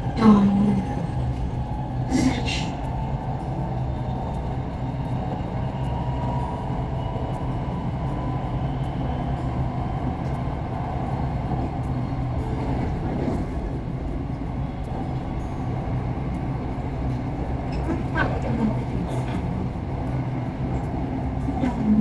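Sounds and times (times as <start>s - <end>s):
electric train rumble and hum: 0.0s - 22.0s.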